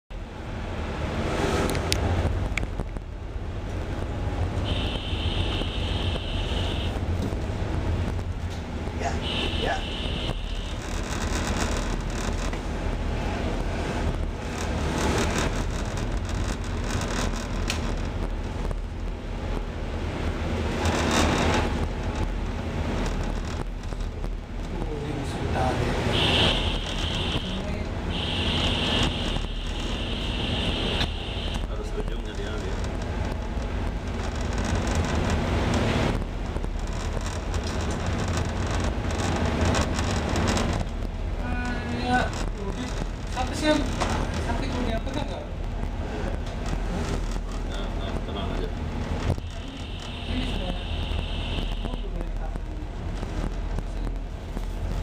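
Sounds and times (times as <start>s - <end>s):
ship engine drone: 0.1s - 48.6s
wind: 0.1s - 55.0s.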